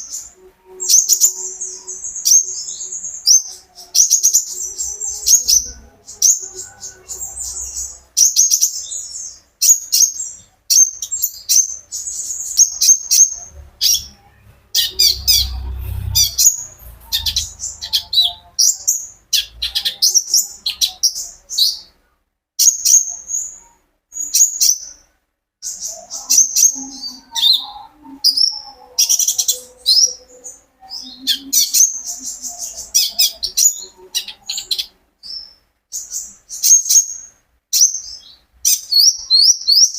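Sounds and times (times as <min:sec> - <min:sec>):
bird chirping and twittering: 0:00.0 - 0:22.0, 0:22.6 - 0:39.9.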